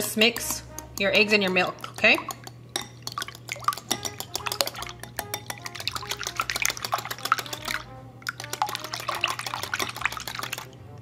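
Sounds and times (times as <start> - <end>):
fork clinking against glass bowl: 0.4 - 10.4
liquid sloshing: 0.7 - 10.8.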